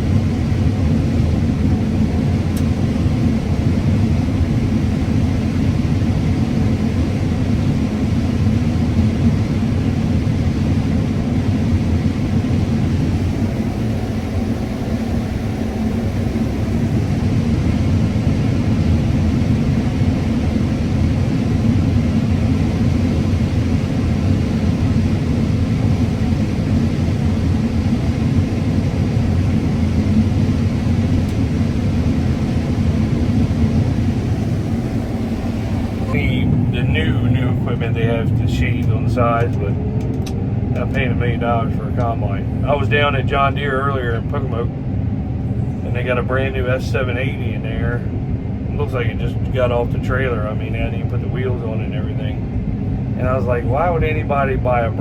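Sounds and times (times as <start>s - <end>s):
combine harvester rumbling: 0.0s - 55.0s.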